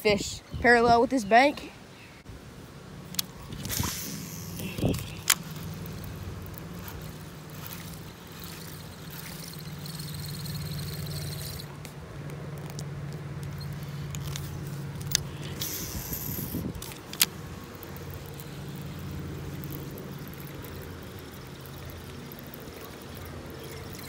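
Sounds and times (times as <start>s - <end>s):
low motor hum: 2.7s - 24.0s
sharp clicks: 3.0s - 24.0s.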